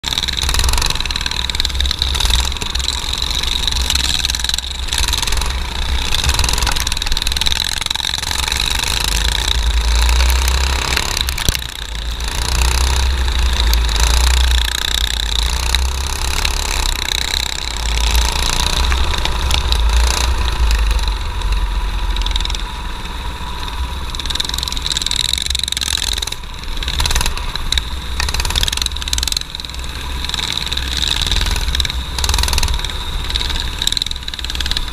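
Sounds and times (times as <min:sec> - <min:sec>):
kart engine running hard: 0:00.0 - 0:34.9.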